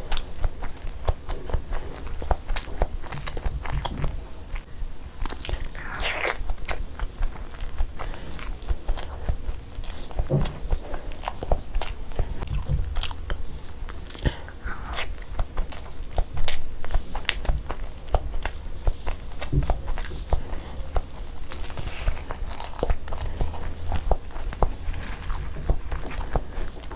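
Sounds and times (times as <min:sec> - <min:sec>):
chewing and wet mouth sounds: 0:00.0 - 0:26.9.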